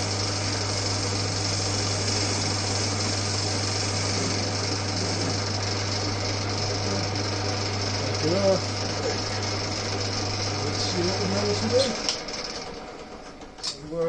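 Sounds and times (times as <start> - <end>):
lathe tool cutting workpiece: 0.0 - 13.8
metal lathe motor humming: 0.0 - 14.0.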